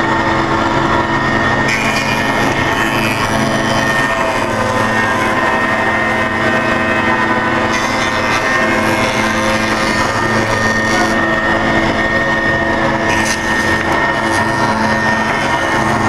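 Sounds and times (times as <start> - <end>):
woodworking machine motor whine: 0.0 - 16.0.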